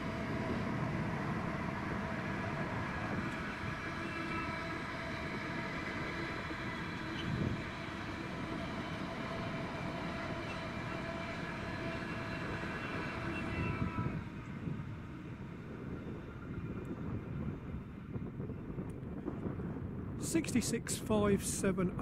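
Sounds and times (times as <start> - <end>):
freight train passing: 0.0 - 22.0.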